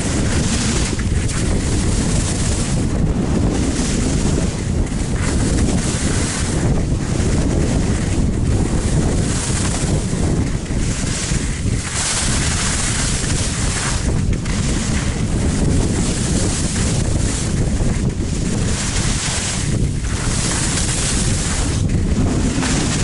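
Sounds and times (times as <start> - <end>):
skis sliding on packed snow: 0.0 - 23.0
wind buffeting microphone: 0.0 - 23.0.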